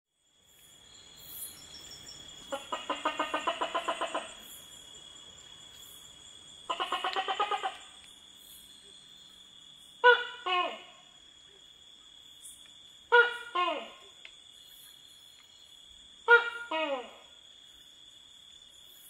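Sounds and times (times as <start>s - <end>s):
night insect drone: 0.1s - 19.0s.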